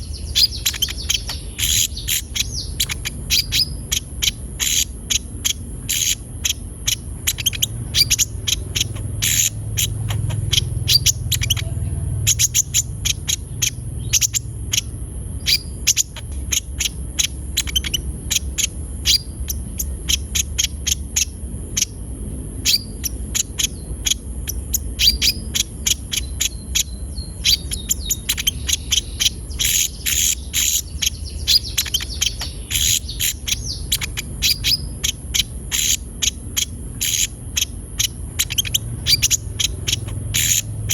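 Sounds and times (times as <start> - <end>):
bird singing high sharp chips: 0.0 - 40.9.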